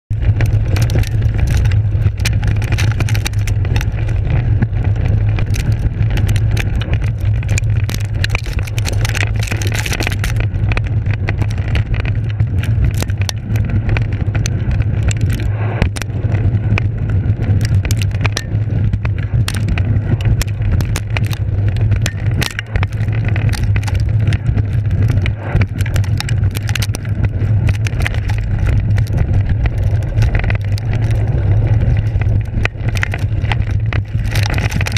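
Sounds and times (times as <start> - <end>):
tyres rumbling over grass: 0.1 - 34.9.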